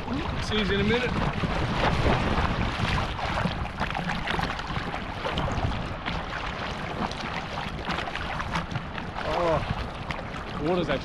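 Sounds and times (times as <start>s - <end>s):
water splashing and sloshing: 0.0s - 11.0s
wind buffeting microphone: 0.0s - 11.0s.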